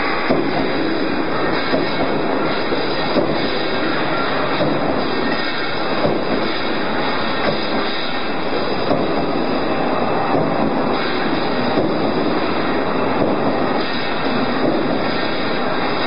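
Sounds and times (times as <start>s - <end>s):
roll forming machine clattering: 0.0s - 16.0s.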